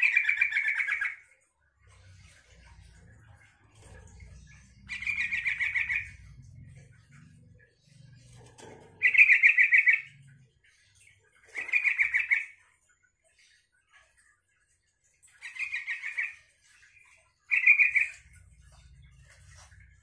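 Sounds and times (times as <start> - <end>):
bird singing rapid phrases: 0.0 - 20.0.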